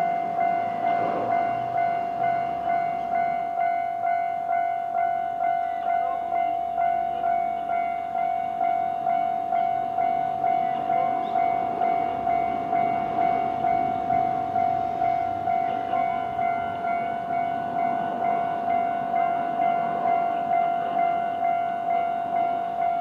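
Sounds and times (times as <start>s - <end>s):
electric train passing: 0.0s - 23.0s
level crossing warning bell ringing: 0.0s - 23.0s.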